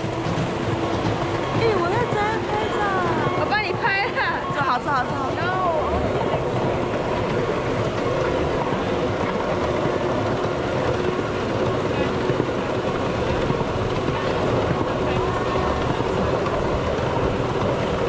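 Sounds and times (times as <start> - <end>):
miniature train rumbling on track: 0.0 - 18.0.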